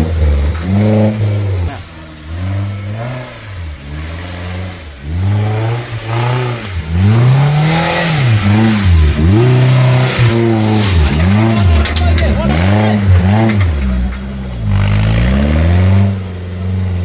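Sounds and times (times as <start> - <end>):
off-road vehicle motor revving: 0.0 - 17.0.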